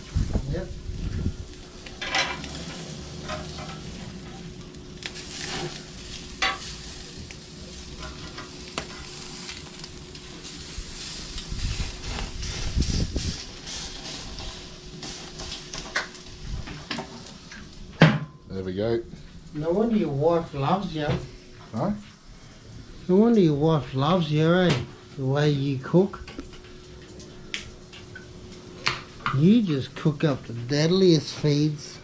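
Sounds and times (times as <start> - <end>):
steaks sizzling on a grill: 0.0 - 18.0, 22.2 - 32.0.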